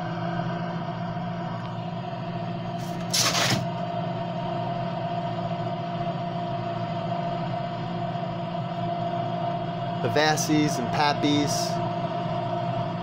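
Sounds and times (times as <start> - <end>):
light airplane engine drone: 0.0 - 13.0.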